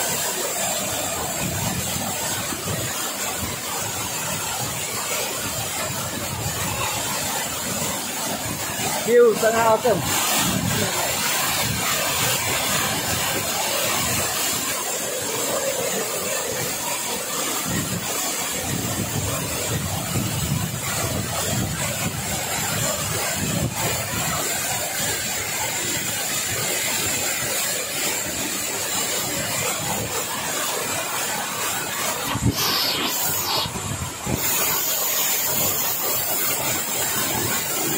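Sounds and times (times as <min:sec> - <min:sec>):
waterfall splashing into pool: 0:00.0 - 0:37.9.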